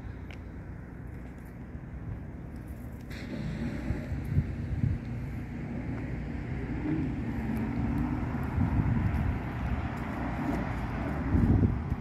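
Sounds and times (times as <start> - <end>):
road traffic rumbling: 0.0 - 12.0
wind rumble on microphone: 1.2 - 12.0.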